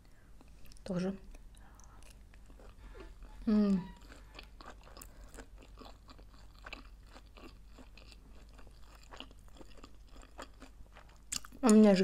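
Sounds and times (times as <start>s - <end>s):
person chewing food: 0.0s - 11.7s.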